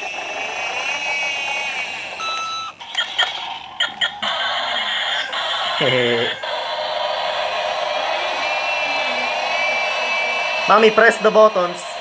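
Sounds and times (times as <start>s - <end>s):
warbling toy siren: 0.0s - 12.0s.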